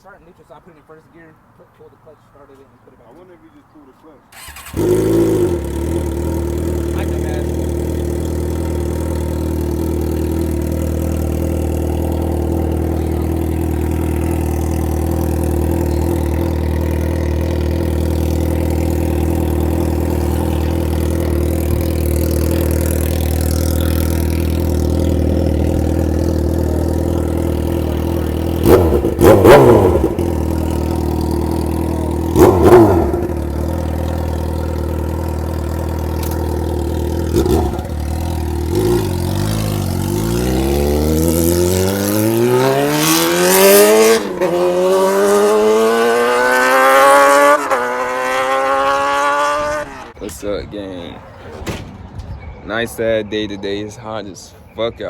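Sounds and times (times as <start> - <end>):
motorcycle engine idling and revving: 4.3 - 50.2.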